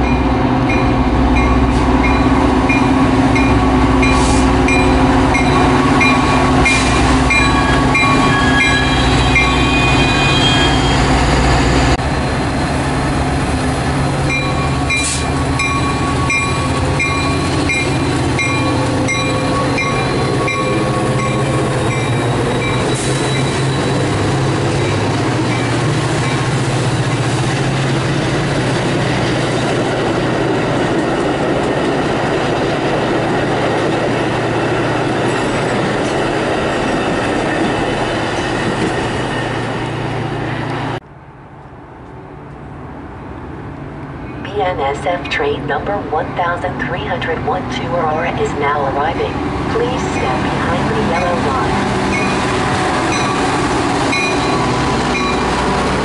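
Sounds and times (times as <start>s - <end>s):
locomotive engine running: 0.0s - 41.0s, 43.5s - 56.0s
train cars rolling on rails: 0.0s - 44.5s, 46.8s - 56.0s.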